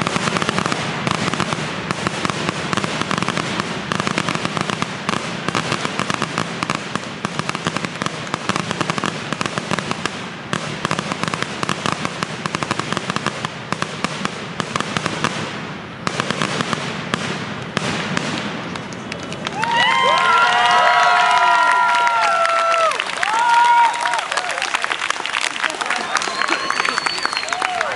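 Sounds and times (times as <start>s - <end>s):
fireworks crackling and popping: 0.0s - 27.9s.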